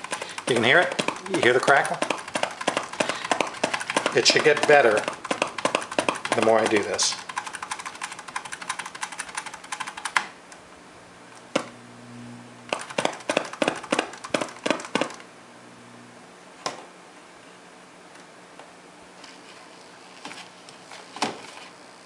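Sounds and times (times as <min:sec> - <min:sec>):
low mains hum: 0:00.0 - 0:22.0.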